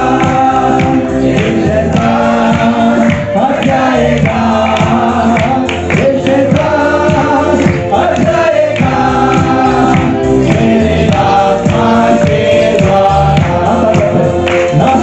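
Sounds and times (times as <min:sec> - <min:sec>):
group singing gospel song: 0:00.0 - 0:15.0
instruments with steady beat: 0:00.0 - 0:15.0.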